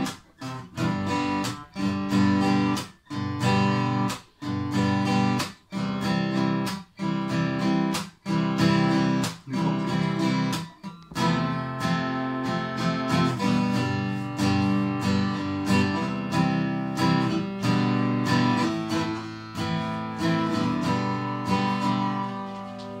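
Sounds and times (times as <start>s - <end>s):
acoustic guitar strummed in chords: 0.0s - 23.0s.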